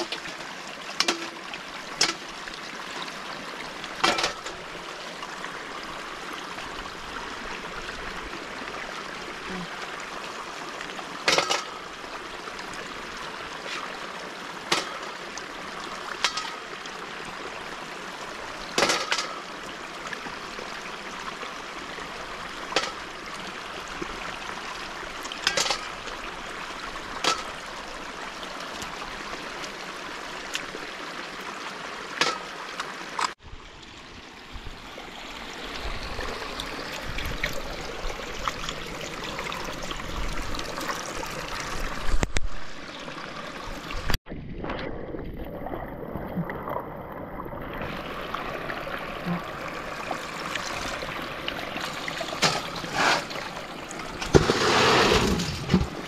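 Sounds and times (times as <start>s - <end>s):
water flowing in a canal: 0.0s - 56.0s.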